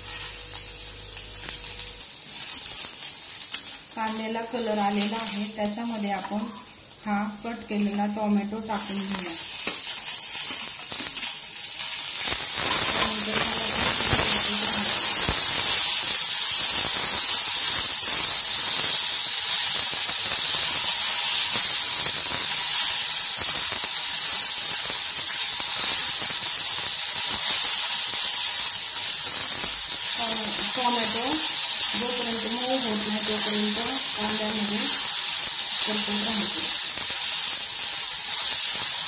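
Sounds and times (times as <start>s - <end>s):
vegetables frying in hot oil: 0.0s - 39.0s.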